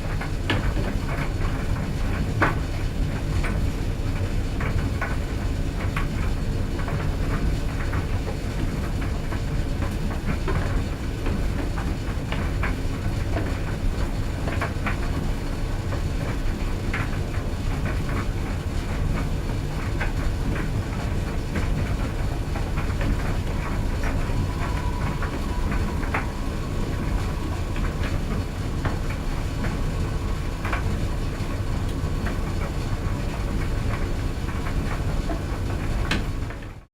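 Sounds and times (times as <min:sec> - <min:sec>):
clothes dryer drum rumbling: 0:00.0 - 0:36.9.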